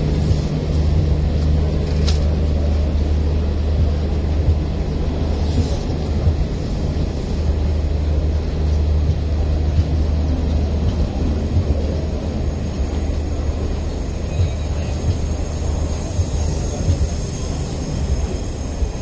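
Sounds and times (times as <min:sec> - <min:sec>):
train coaches rolling past: 0:00.0 - 0:19.0.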